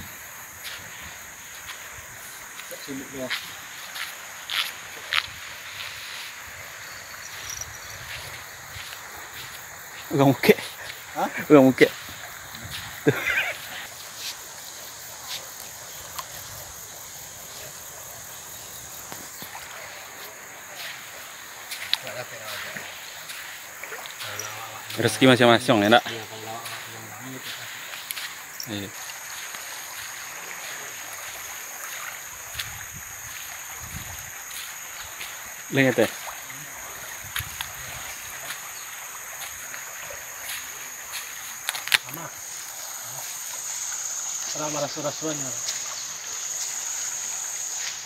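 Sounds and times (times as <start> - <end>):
insects droning: 0.0 - 48.0
river rushing: 0.0 - 48.0.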